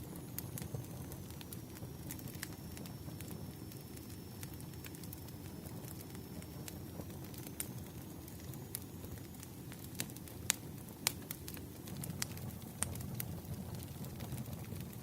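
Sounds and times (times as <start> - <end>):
burning logs crackling and popping: 0.0 - 15.0
fire rumbling: 0.0 - 15.0.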